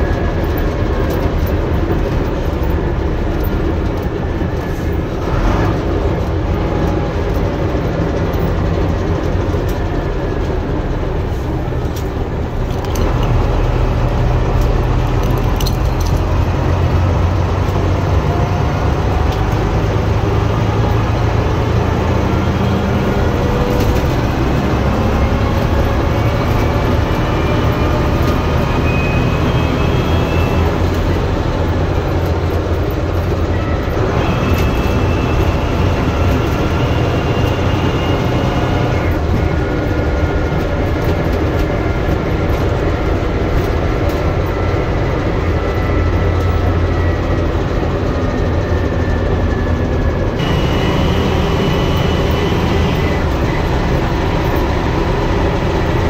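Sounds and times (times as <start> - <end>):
bus diesel engine drone: 0.0 - 56.0
engine whine: 0.0 - 56.0.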